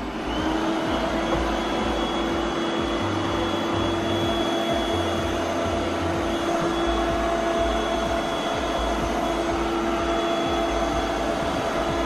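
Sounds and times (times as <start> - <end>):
constant whine: 0.0 - 12.0
robot vacuum motor hum: 0.0 - 12.0.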